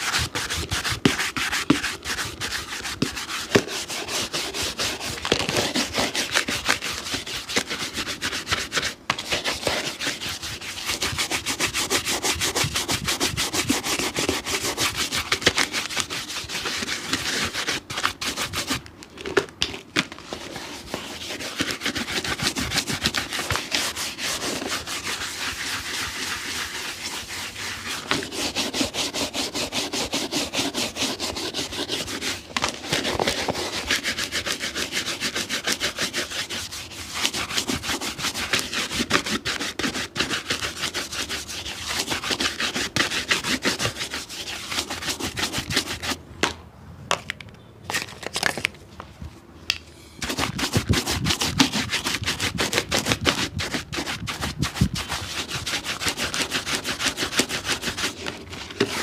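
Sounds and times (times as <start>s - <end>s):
brush scrubbing a shoe: 0.0s - 18.8s, 20.3s - 46.2s, 50.2s - 59.0s.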